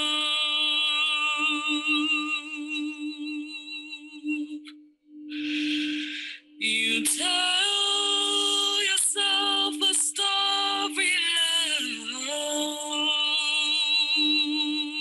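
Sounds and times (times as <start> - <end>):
woman singing: 0.0 - 4.7, 6.6 - 15.0.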